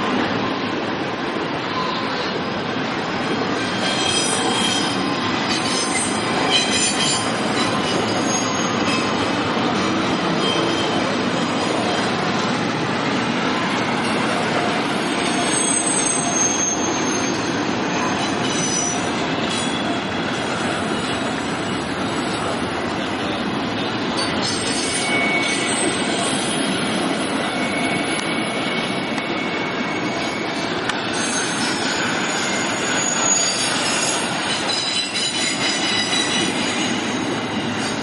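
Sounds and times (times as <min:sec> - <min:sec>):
train wheels rumbling on rail: 0:00.0 - 0:38.0
train wheel squeals: 0:03.3 - 0:12.8, 0:13.4 - 0:38.0.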